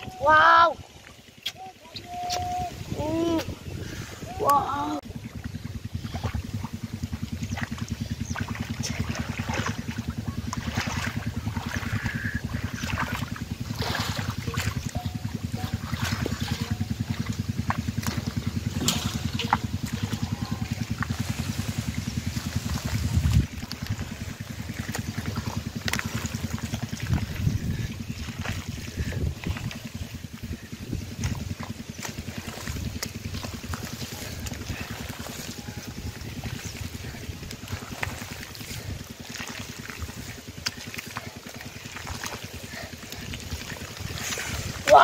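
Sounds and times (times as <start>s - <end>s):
low engine chugging: 0.0s - 45.0s
mud squelching: 0.0s - 45.0s
splashing in shallow water: 0.0s - 45.0s
low rapid throb: 2.7s - 45.0s.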